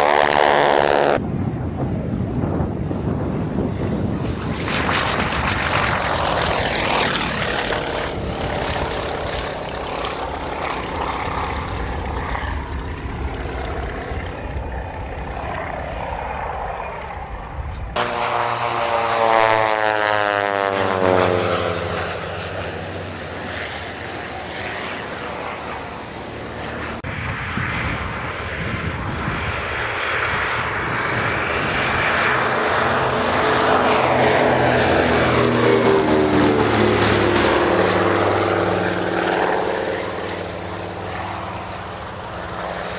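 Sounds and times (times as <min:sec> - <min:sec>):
propeller aircraft droning past: 0:00.0 - 0:42.9.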